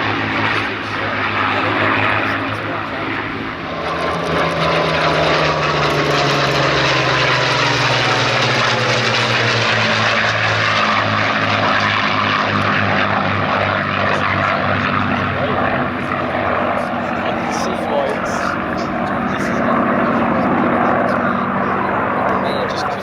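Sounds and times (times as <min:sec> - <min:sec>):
propeller plane flying past: 0:00.0 - 0:23.0.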